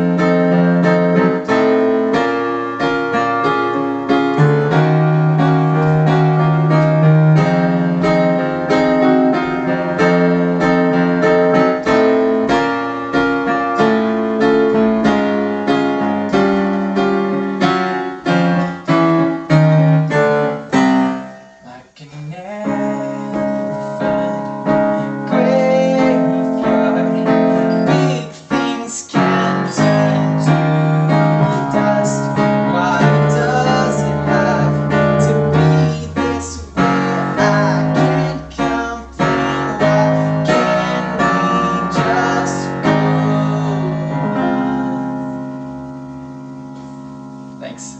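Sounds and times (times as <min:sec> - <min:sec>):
digital piano playing chords: 0:00.0 - 0:47.9.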